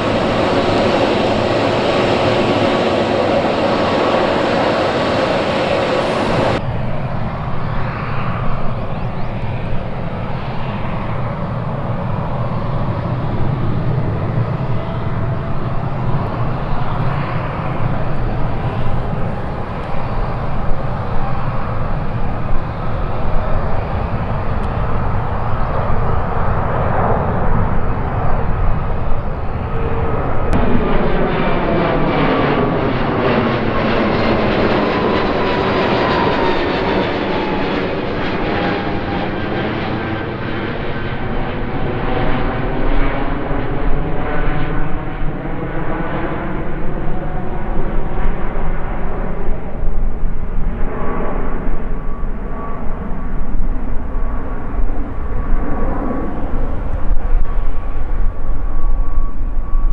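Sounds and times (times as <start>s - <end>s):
jet engines whining while taxiing: 0.0s - 59.9s
jet takeoff rumble: 0.0s - 59.9s.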